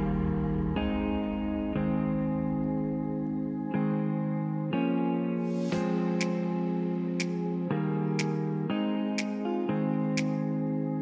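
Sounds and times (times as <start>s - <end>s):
soft instrumental chords: 0.0s - 11.0s.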